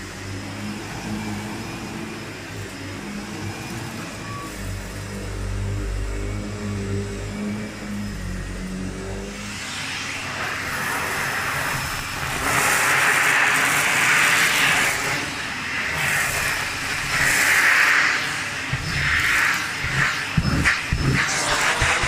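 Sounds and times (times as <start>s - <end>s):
vacuum cleaner humming: 0.0s - 22.0s
vacuum hose sucking air: 0.0s - 22.0s.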